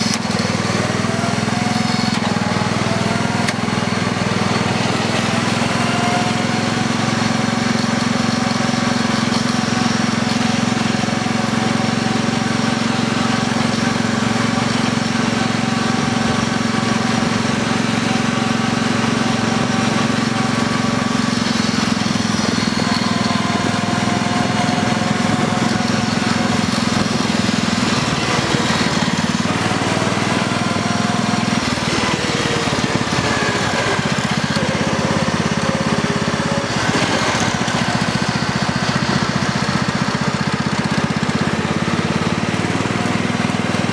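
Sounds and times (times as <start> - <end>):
lawn tractor engine running: 0.0 - 43.9.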